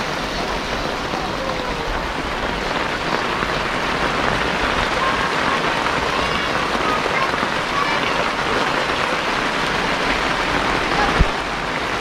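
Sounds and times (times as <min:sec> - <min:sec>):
heavy rain on road and roof: 0:00.0 - 0:12.0.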